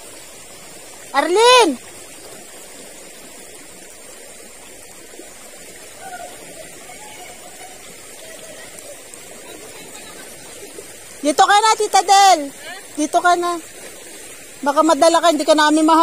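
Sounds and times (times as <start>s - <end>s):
fast-flowing river rushing: 0.0s - 16.0s.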